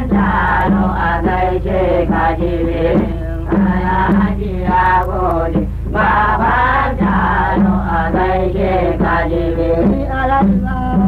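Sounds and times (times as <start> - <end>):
low steady hum: 0.0 - 11.0
men singing in chanting style: 0.0 - 11.0.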